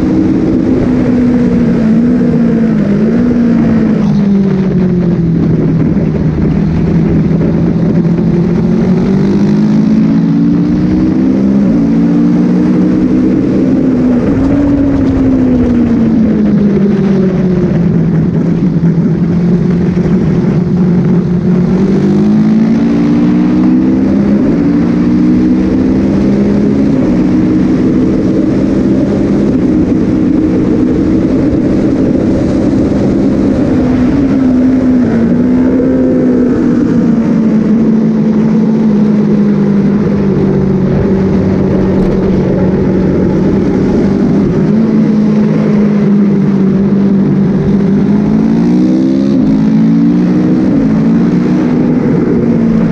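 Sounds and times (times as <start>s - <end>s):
motorcycle engine accelerating: 0.0s - 52.9s
wind rush: 0.0s - 52.9s.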